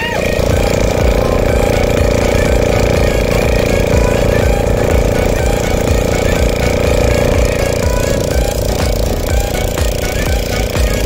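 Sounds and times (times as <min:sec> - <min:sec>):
boat engine thudding: 0:00.0 - 0:11.0.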